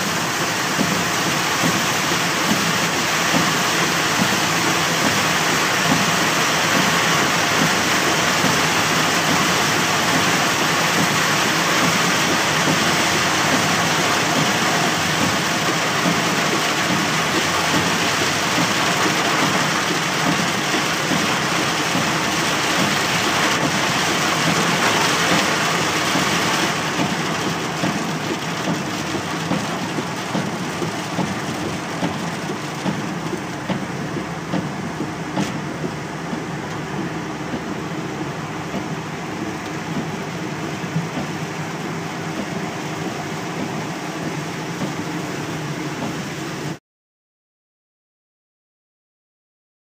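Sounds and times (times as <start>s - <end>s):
heavy rain on car roof: 0.0s - 46.8s
tyres hissing on wet road: 0.0s - 46.8s.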